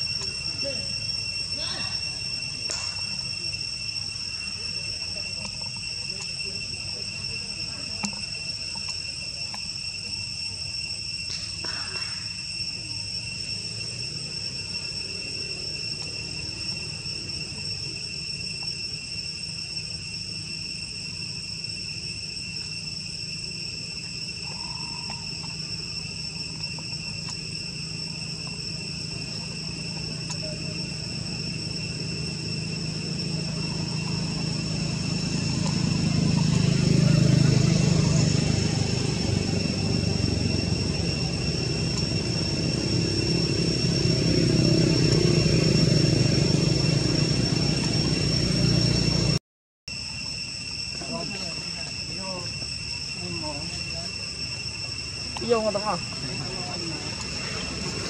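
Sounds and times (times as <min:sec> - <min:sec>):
insects droning high-pitched: 0:00.0 - 0:58.0.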